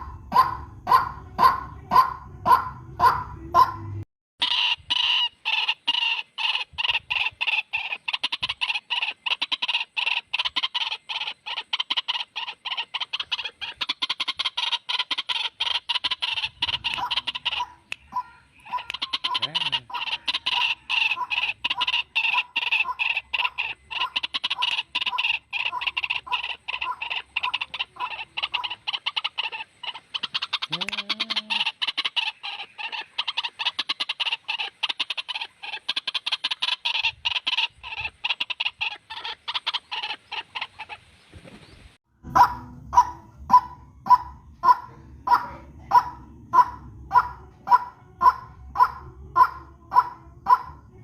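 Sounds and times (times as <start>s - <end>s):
waterhen calling harsh notes: 0.0s - 41.1s, 42.2s - 51.0s.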